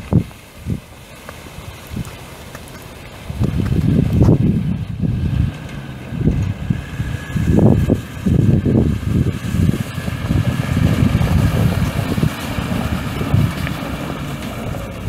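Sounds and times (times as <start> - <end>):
wind buffeting microphone: 0.0 - 15.0
diesel truck engine running: 2.4 - 15.0.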